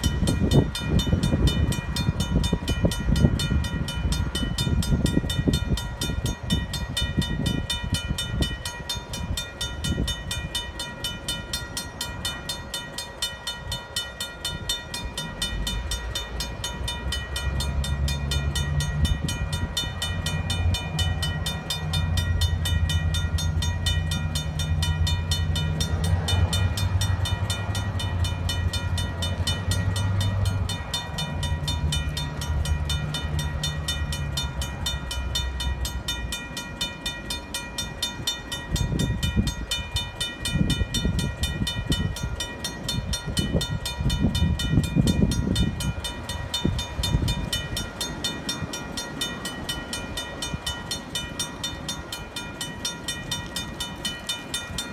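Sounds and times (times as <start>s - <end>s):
diesel locomotive engine drone: 0.0s - 54.9s
railroad crossing bell ringing: 0.0s - 54.9s.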